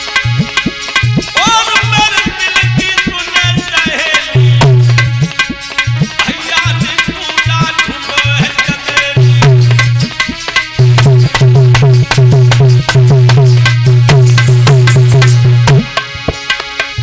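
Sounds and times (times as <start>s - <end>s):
hand drums with deep bass: 0.0s - 17.0s
melodic instrument with bending notes: 0.0s - 17.0s.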